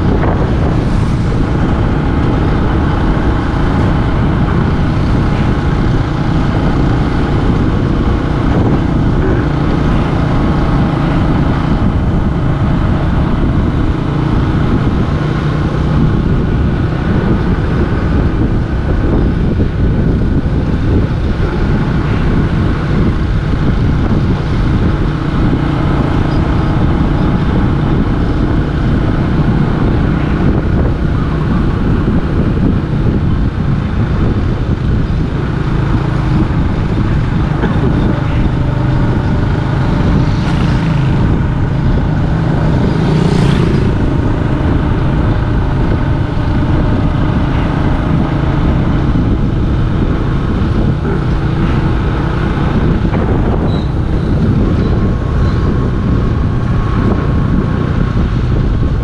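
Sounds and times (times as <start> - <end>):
road noise: 0.0 - 59.0
vehicle engine running: 0.0 - 59.0.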